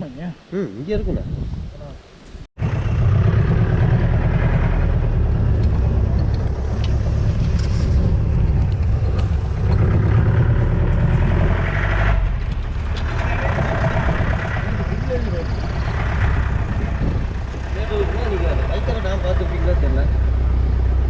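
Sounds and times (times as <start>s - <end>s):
vehicle engine running: 2.6s - 21.0s.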